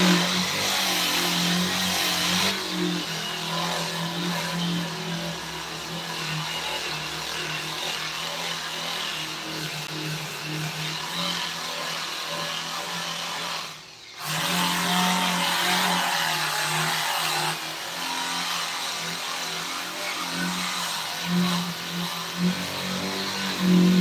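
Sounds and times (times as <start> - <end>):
power tool motor running: 0.0 - 24.0.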